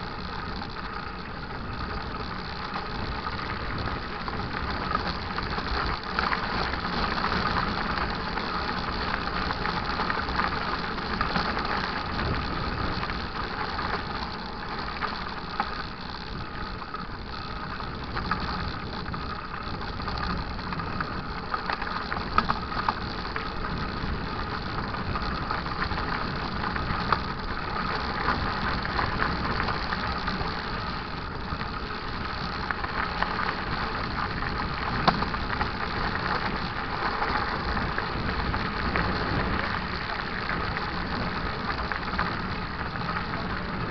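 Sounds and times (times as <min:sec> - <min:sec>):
bike rattling: 0:00.0 - 0:43.9
tyres rushing on dirt trail: 0:00.0 - 0:43.9.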